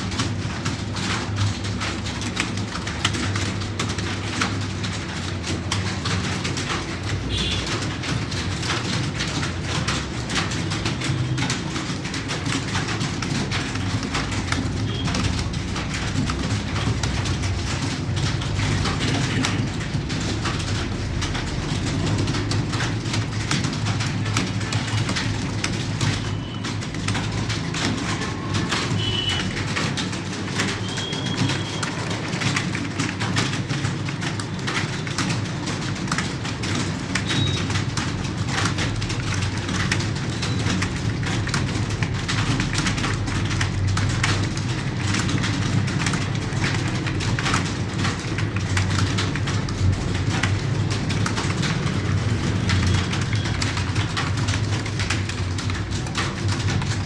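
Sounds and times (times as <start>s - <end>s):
rapid typing on keyboard: 0.0s - 57.0s.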